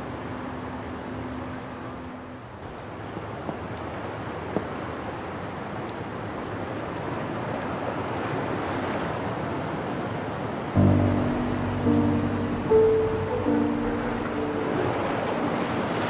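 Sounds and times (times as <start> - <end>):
sea waves washing on shore: 2.8 - 16.0.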